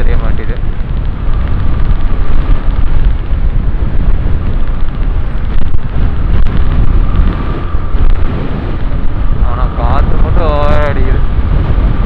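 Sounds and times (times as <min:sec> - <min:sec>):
motorcycle engine running: 0:00.0 - 0:12.0
road noise: 0:00.0 - 0:12.0
wind buffeting microphone: 0:00.0 - 0:12.0.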